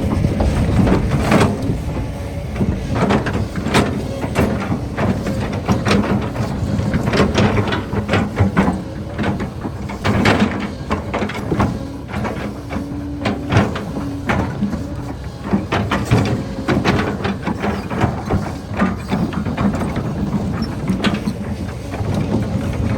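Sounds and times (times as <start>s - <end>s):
excavator engine running: 0.0s - 22.9s.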